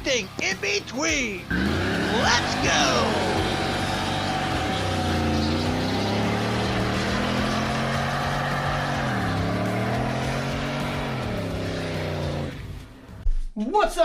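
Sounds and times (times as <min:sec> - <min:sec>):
engine running: 0:01.4 - 0:13.2.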